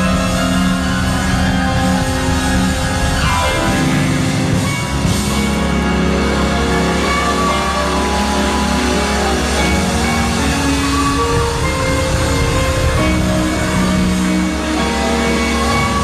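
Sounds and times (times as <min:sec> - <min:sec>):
keyboard playing held chords: 0:00.0 - 0:16.0.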